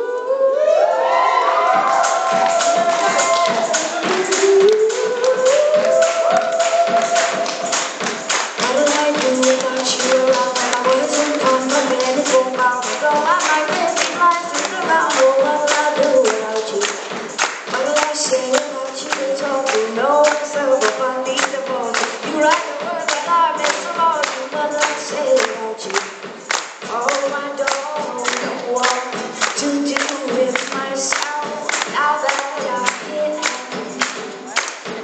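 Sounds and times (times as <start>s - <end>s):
woman singing: 0.0s - 35.0s.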